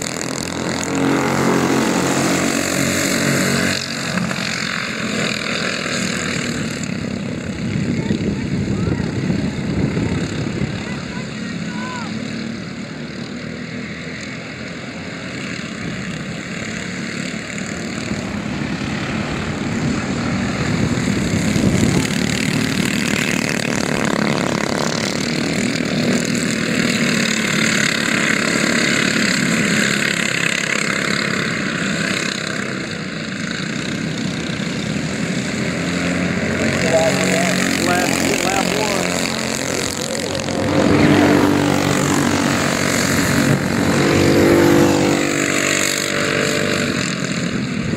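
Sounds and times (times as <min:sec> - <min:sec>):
go-kart engines buzzing: 0:00.0 - 0:47.9.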